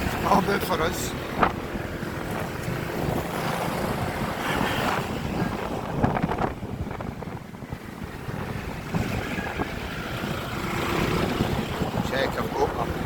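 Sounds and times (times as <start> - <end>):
traffic: 0.0 - 13.0
wind rushing over microphone: 0.0 - 13.0.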